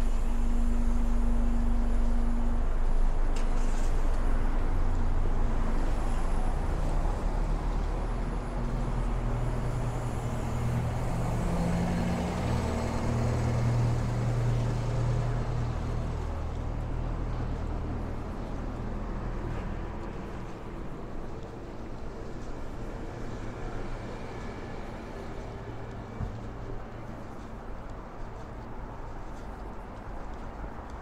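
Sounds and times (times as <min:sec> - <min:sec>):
heavy vehicle engine hum: 0:00.0 - 0:31.0.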